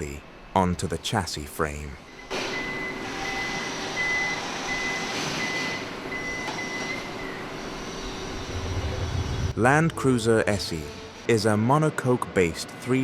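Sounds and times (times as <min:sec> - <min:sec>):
factory machinery noise: 0:00.0 - 0:13.0.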